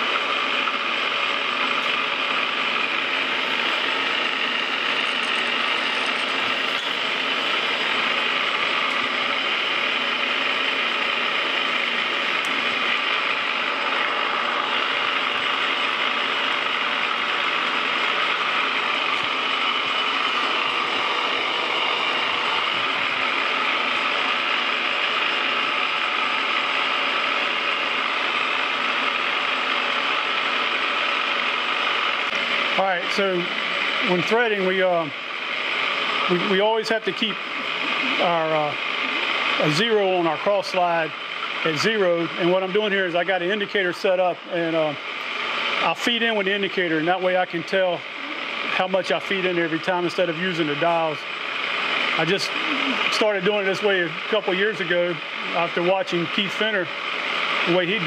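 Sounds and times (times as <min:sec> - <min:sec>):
metal lathe whirring and clattering: 0:00.0 - 0:58.0.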